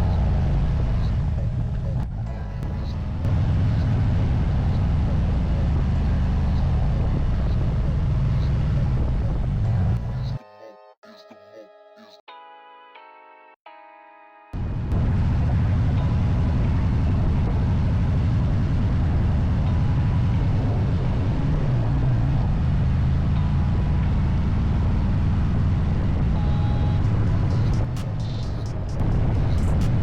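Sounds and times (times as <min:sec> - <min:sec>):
motorcycle engine rumbling: 0:00.0 - 0:10.3, 0:14.6 - 0:30.0.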